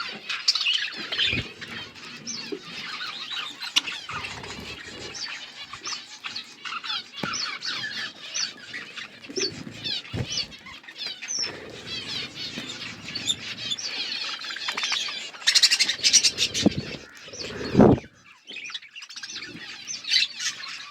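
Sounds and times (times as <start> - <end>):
budgerigars chirping: 0.0 - 20.9.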